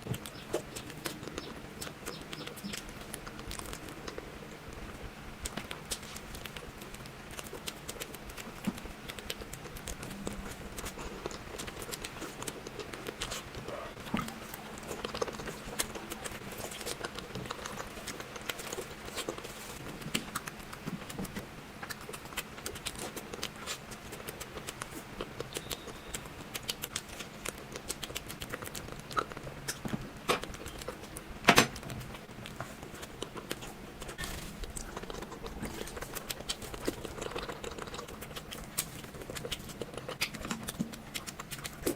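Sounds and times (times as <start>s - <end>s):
chewing sweets with clicks: 0.0s - 41.9s.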